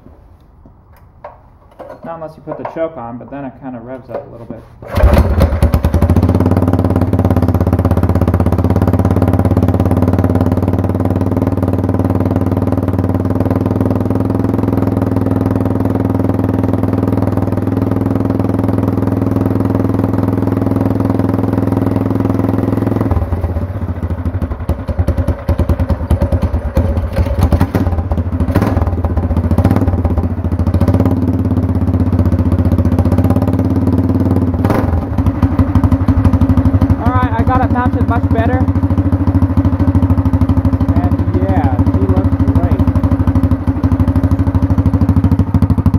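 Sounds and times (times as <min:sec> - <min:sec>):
go-kart engine running: 0:04.8 - 0:45.9.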